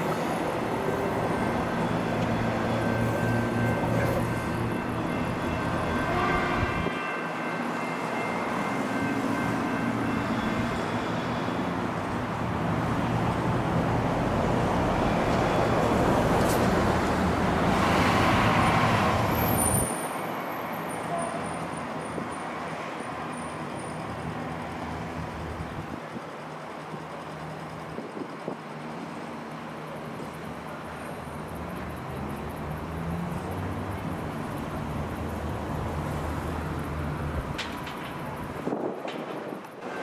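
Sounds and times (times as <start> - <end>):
train passing rumble: 0.0 - 40.0.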